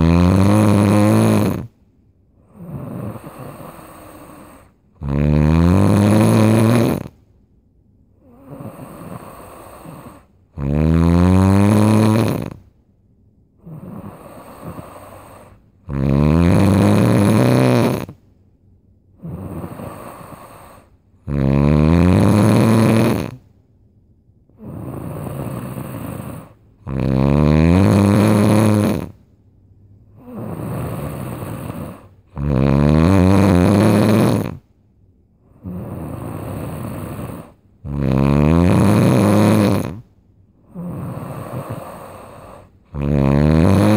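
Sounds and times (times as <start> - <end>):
loud snoring: 0.0 - 1.8, 2.4 - 7.2, 8.2 - 12.7, 13.6 - 18.2, 19.2 - 23.5, 24.5 - 29.2, 30.1 - 34.7, 35.4 - 43.9.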